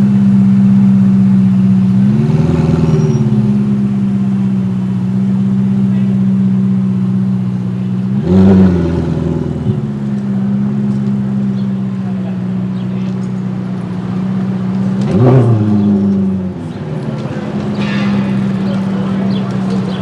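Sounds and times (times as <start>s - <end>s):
car engine idling: 0.0s - 20.0s
car engine throttle revs: 0.0s - 20.0s.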